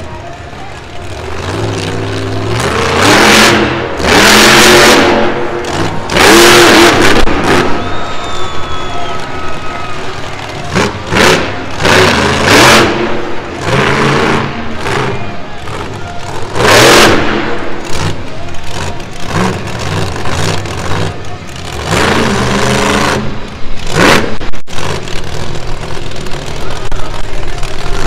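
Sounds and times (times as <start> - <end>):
truck engine revving hard: 0.9 - 28.0.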